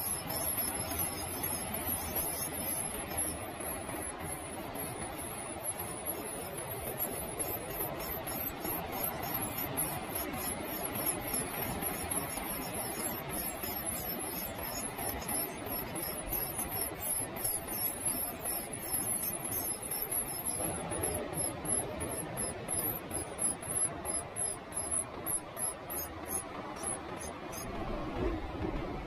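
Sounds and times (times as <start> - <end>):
nestlings squeaking: 0.0 - 27.6.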